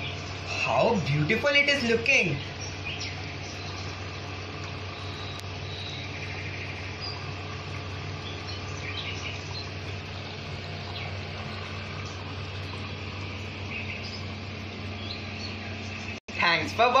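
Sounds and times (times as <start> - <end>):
water trickling: 0.0 - 16.2
birds chirping: 0.0 - 17.0
water pump humming: 0.0 - 17.0.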